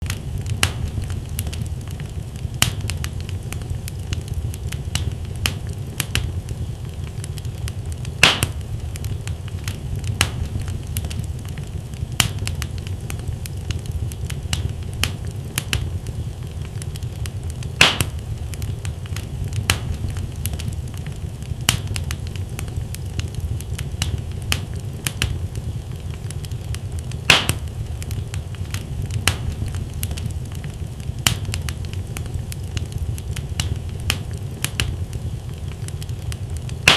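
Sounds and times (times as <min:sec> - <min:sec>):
flames rumbling: 0:00.0 - 0:36.9
logs crackling: 0:00.0 - 0:36.9
loud fire pops: 0:00.0 - 0:36.9.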